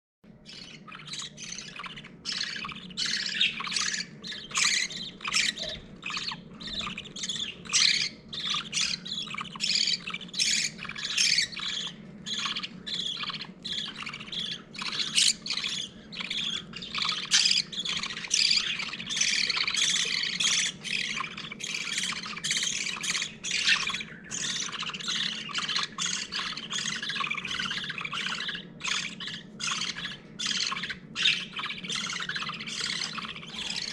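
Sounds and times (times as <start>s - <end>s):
budgerigar chicks cheeping: 0.3s - 33.9s
steady low hum: 0.3s - 33.9s.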